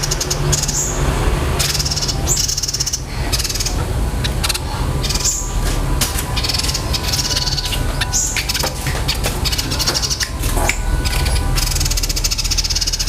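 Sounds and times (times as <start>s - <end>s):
songbird trills and chips: 0.0s - 13.0s
steady low hum: 0.0s - 13.0s.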